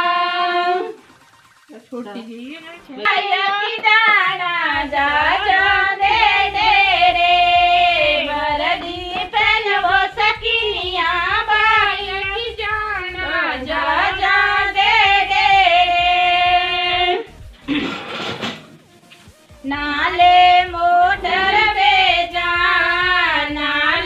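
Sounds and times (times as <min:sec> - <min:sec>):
women singing: 0:00.0 - 0:01.0, 0:02.8 - 0:17.3, 0:19.6 - 0:24.0.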